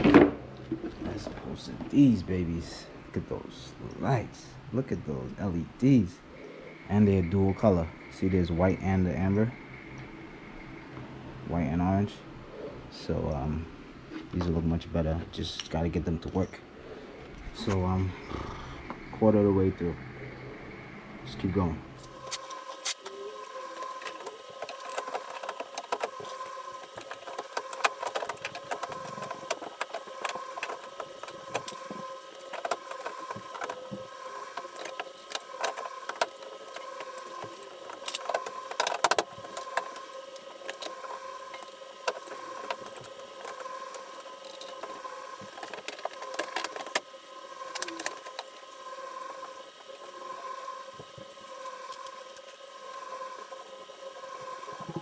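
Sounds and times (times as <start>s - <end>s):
steady hum: 0.0s - 55.0s.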